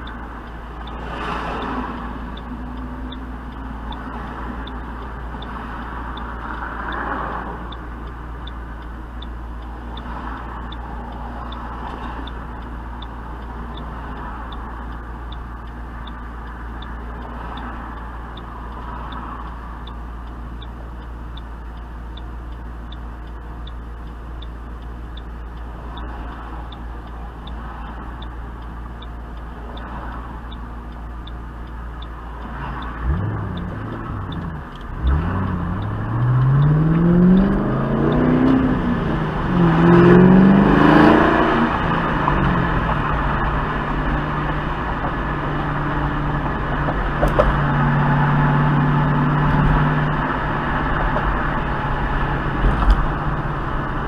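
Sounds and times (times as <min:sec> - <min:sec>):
high even ticking: 0:00.0 - 0:54.0.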